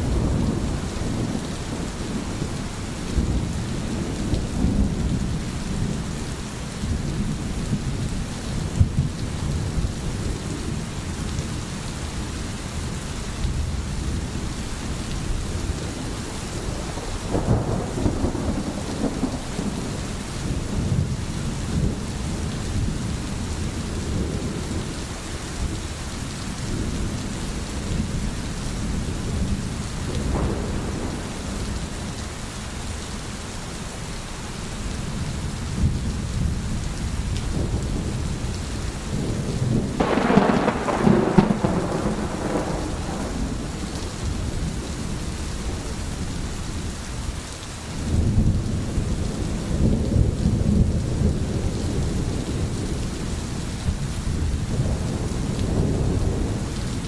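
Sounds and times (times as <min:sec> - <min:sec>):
low rolling thunder: 0:00.0 - 0:32.5, 0:34.9 - 0:47.0, 0:48.0 - 0:57.0
steady rain falling: 0:00.0 - 0:57.0.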